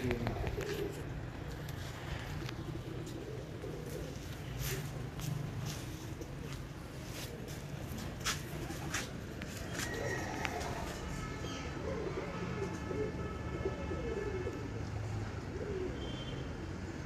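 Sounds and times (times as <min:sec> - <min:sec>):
pigeons cooing: 0:00.0 - 0:16.4.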